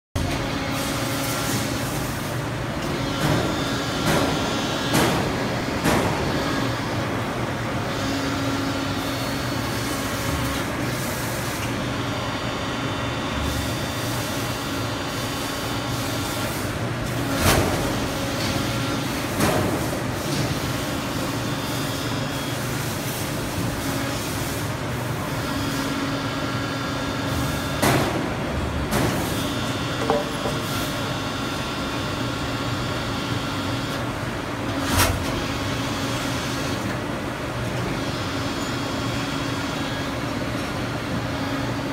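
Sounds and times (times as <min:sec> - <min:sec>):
hydraulic pump humming and whining: 0:00.2 - 0:41.9.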